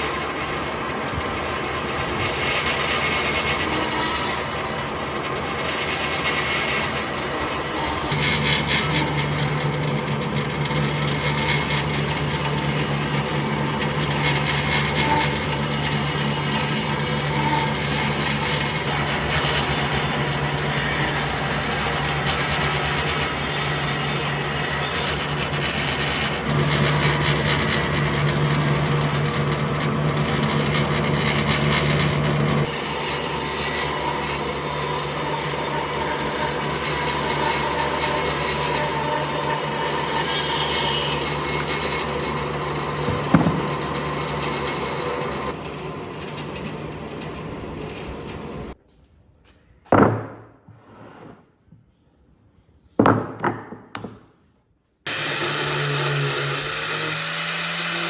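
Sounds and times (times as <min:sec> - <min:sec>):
power tool motor hum: 0:00.0 - 0:48.8, 0:55.1 - 0:58.0.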